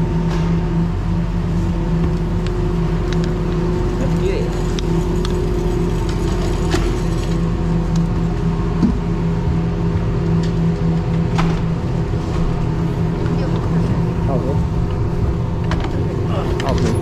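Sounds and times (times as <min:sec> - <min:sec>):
gondola mechanical hum: 0:00.0 - 0:17.0.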